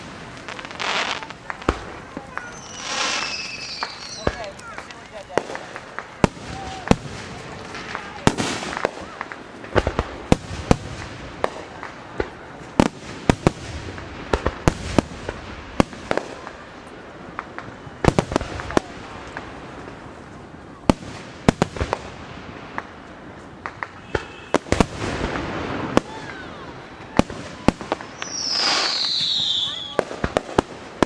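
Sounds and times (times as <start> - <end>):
fireworks bangs: 0.0 - 31.0
outdoor background noise: 0.0 - 31.0.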